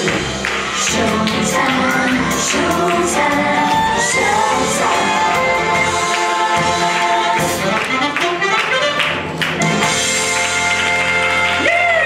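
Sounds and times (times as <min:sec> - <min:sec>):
percussion hits: 0:00.0 - 0:11.6.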